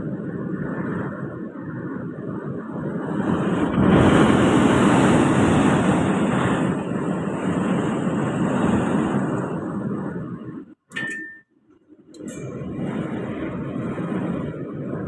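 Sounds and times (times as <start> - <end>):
strong wind roaring gusts: 0.0 - 10.8, 12.1 - 15.0.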